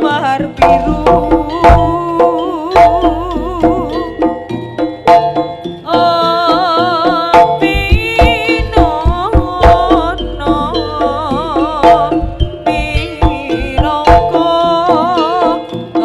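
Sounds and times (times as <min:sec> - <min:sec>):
deep low drum beats: 0:00.0 - 0:15.6
rapid hand drum strokes: 0:00.0 - 0:15.7
wavering melody line: 0:00.0 - 0:16.0.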